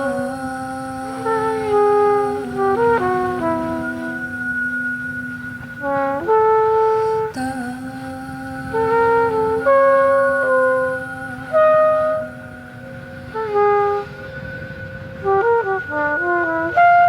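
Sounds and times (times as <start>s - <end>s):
brass melody: 0.0s - 7.8s, 8.6s - 17.0s
long held low note: 0.0s - 17.0s.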